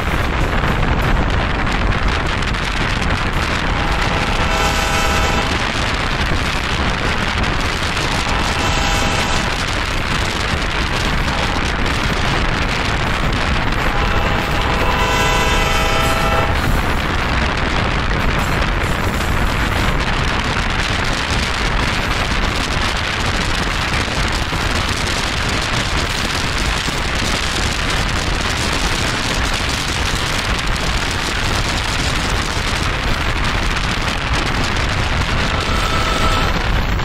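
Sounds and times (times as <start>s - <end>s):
rushing wind and road noise: 0.0s - 37.0s.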